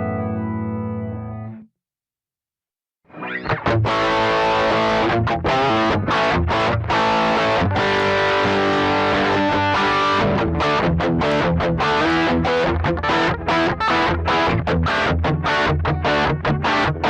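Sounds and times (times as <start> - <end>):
distorted electric guitar riffing: 3.1 - 17.0.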